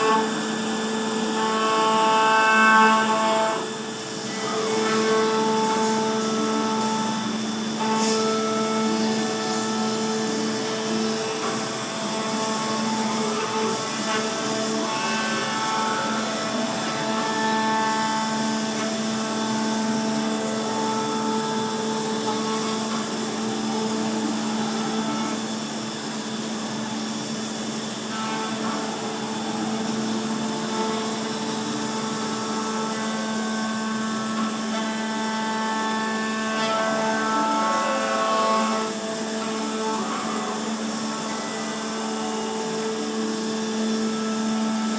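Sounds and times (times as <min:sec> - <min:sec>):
milling spindle whine: 0:00.0 - 0:44.9
noisy cutting sound: 0:00.0 - 0:44.9.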